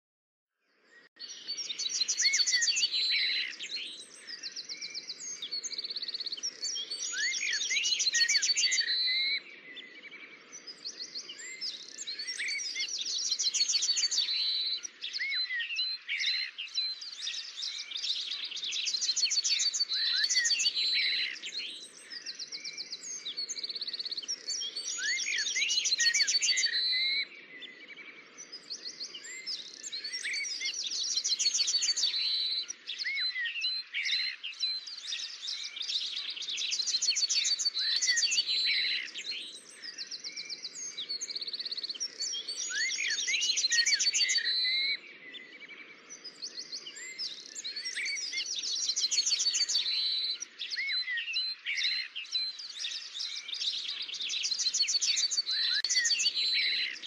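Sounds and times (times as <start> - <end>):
birds singing and chirping: 0.8 - 57.0.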